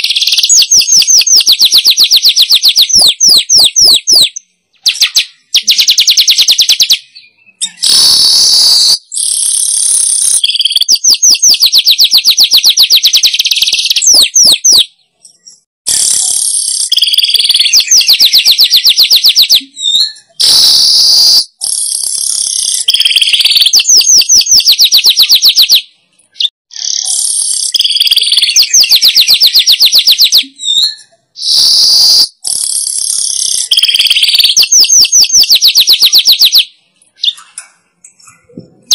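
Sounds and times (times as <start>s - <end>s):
weaver bird ticking chatter: 0.0s - 7.0s, 9.1s - 14.9s, 15.9s - 19.7s, 20.5s - 25.8s, 26.7s - 30.8s, 31.4s - 37.6s.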